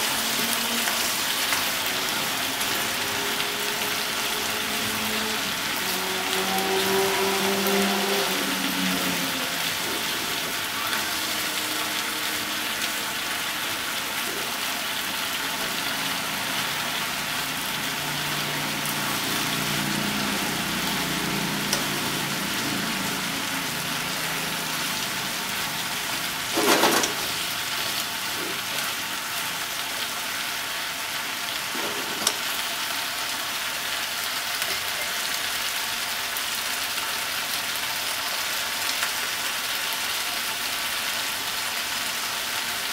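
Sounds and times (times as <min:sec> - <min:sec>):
food sizzling in a pot: 0:00.0 - 0:42.9.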